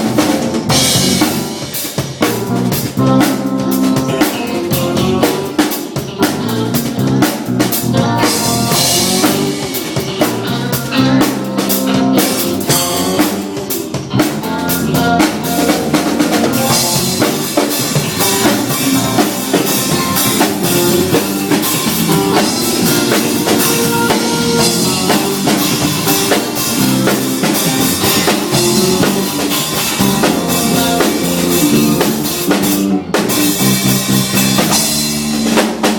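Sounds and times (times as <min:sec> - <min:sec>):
drum kit playing: 0:00.0 - 0:35.9
pitched instruments: 0:00.0 - 0:35.9.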